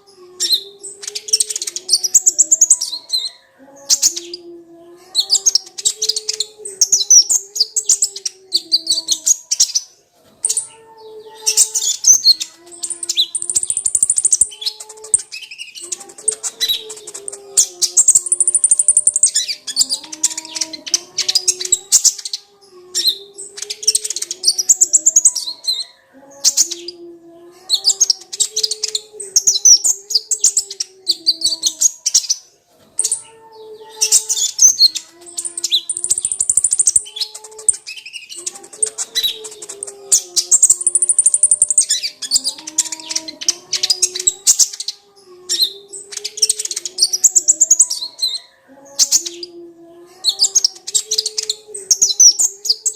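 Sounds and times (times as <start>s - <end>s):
bird twittering song: 0.0s - 4.5s, 5.1s - 27.0s, 27.7s - 49.6s, 50.2s - 52.9s.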